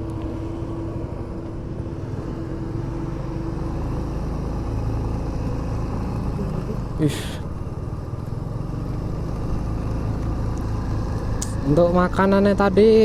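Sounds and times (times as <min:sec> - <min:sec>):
motorcycle engine running: 0:00.0 - 0:13.0
road and wind rumble: 0:00.0 - 0:13.0.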